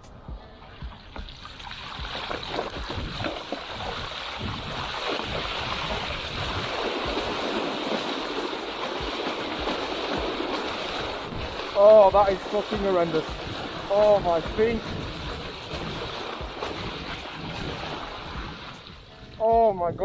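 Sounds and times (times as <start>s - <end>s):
bike tyres splashing through water: 1.3s - 19.1s.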